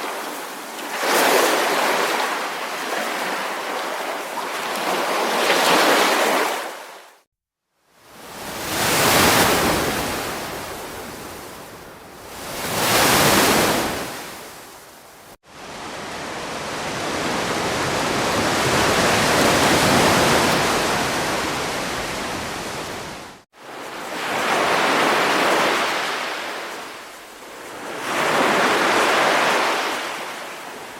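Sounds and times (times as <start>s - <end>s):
ocean waves breaking: 0.0s - 7.0s, 8.1s - 30.9s.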